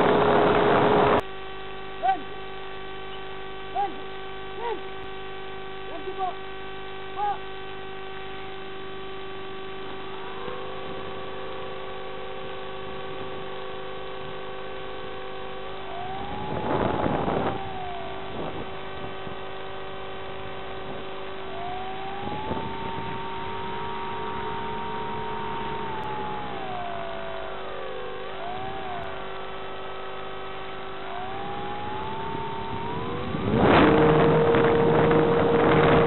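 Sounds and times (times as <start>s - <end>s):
electric motor whining: 0.0s - 36.0s
steady electrical hum: 0.0s - 36.0s.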